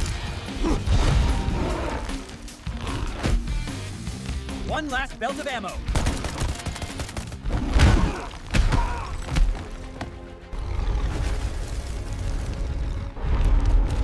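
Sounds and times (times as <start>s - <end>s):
cartoon soundtrack music: 0.0s - 14.0s.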